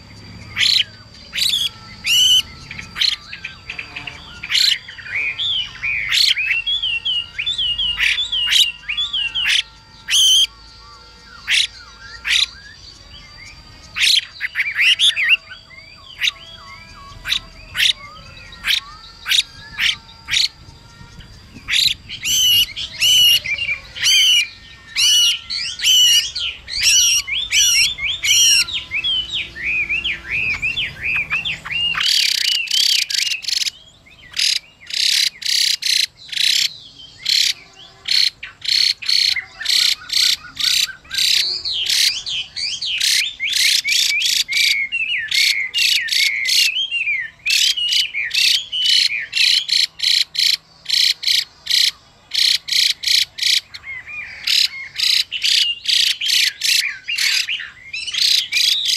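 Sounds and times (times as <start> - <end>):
bird singing whistled phrases: 0.5 - 50.0.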